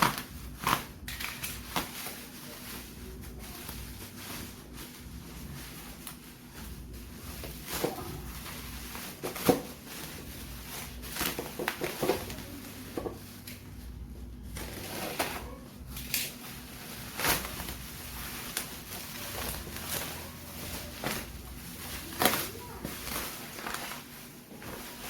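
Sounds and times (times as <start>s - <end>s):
low steady hum: 0.0s - 25.0s
packaging clicks and rustles: 0.0s - 25.0s.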